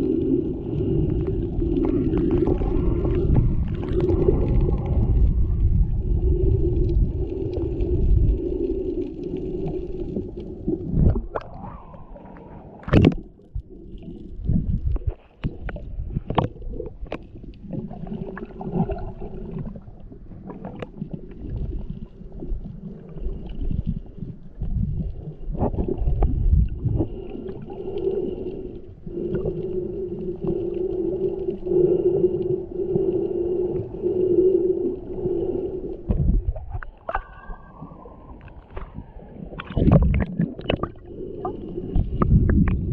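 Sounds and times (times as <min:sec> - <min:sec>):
low rumbling underwater movement: 0:00.0 - 0:42.9.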